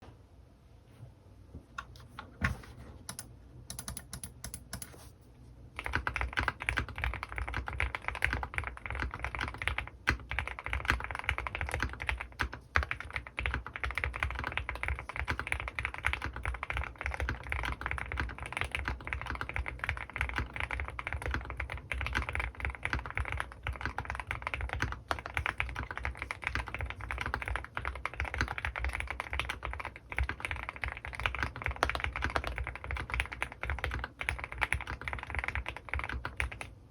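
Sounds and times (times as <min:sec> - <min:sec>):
mechanical keyboard typing: 0:03.1 - 0:05.1, 0:05.8 - 0:36.8.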